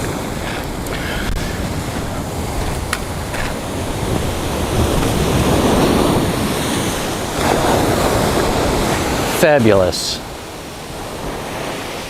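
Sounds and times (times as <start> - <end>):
ocean surf washing on shore: 0.0 - 12.0.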